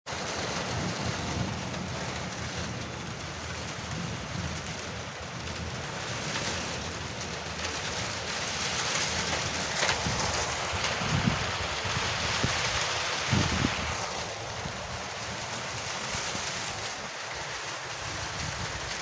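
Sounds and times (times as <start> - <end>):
heavy rain on a roof: 0.0 - 19.0.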